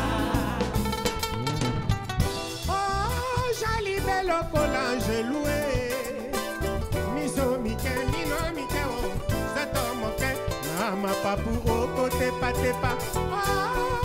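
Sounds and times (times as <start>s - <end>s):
acoustic band playing rumba: 0.0s - 14.0s
person singing: 0.0s - 14.0s.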